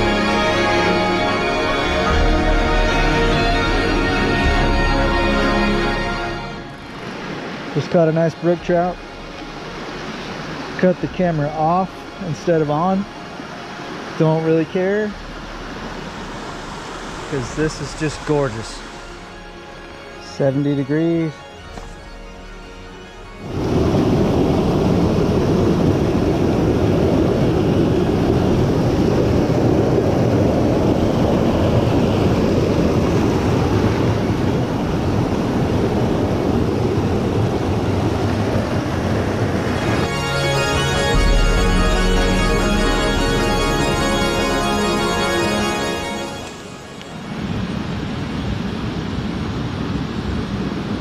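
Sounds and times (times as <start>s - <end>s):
whitewater roaring over rocks: 0.0s - 21.9s, 22.6s - 51.0s
stream rushing over boulders: 0.0s - 51.0s.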